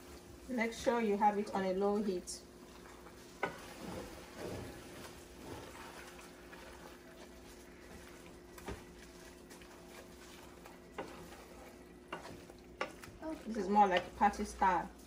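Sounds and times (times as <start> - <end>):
thick soup bubbling in pot: 2.4 - 14.8.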